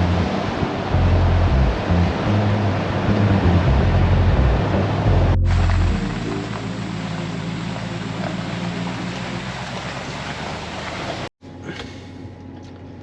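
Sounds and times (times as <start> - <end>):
road rushing noise: 0.0 - 11.3
low engine hum: 0.0 - 13.0.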